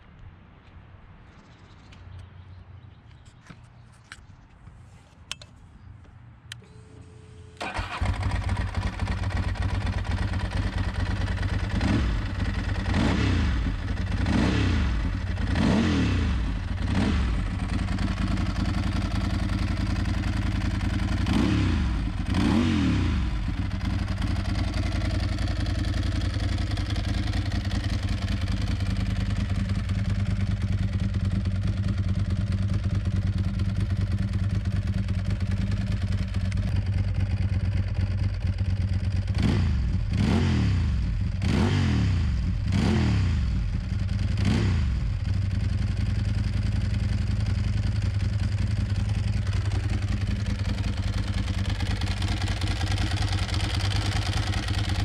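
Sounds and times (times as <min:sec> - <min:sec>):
motorcycle engine idling and revving: 0:07.6 - 0:55.0.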